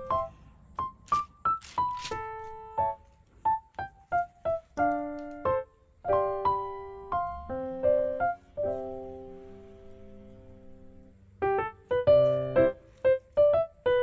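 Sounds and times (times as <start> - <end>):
piano playing light melody: 0.0 - 14.0.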